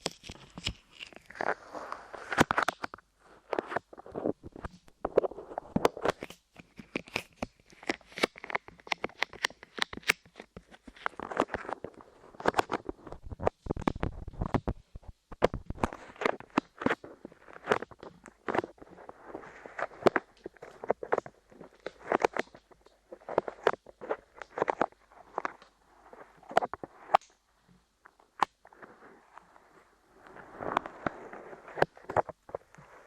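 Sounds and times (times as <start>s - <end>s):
clay crackling against microphone: 0.0s - 33.0s.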